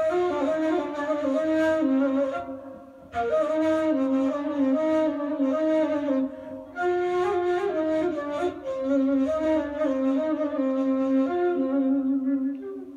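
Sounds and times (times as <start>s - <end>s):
shepherd's flute melody: 0.0s - 12.9s.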